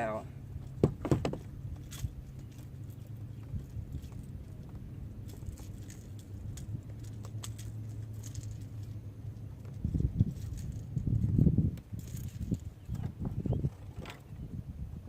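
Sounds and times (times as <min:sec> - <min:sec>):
low bumps: 0:00.0 - 0:15.0
low hum: 0:00.0 - 0:15.0
fishing gear clicking and rattling: 0:00.6 - 0:14.3.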